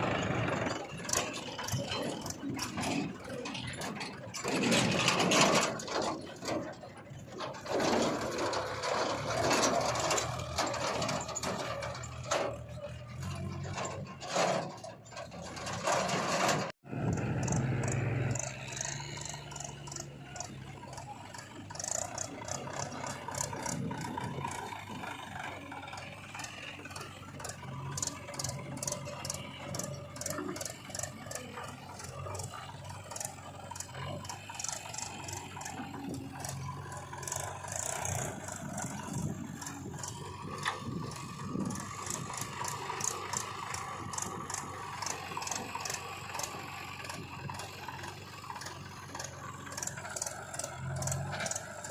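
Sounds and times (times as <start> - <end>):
diesel engine running: 0.0 - 51.9
metallic rattling and clatter: 0.1 - 51.9.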